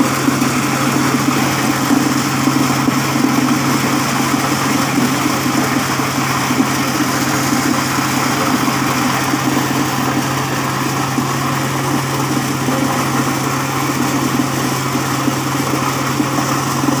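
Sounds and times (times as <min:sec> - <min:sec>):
corn sheller machine humming: 0:00.0 - 0:17.0.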